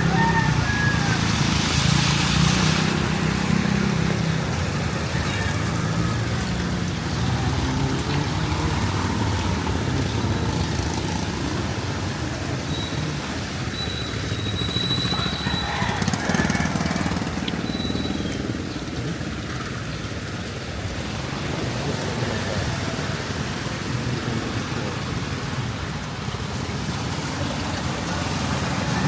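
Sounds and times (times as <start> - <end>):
street noise: 0.0 - 29.0
traffic engine rumble: 0.0 - 29.0.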